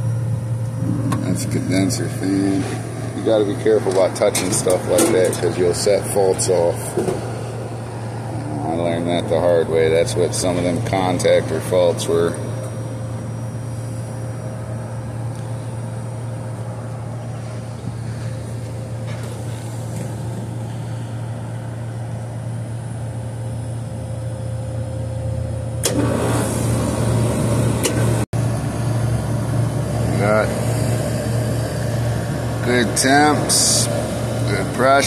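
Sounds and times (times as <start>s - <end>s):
rooftop air conditioner humming: 0.0s - 35.0s.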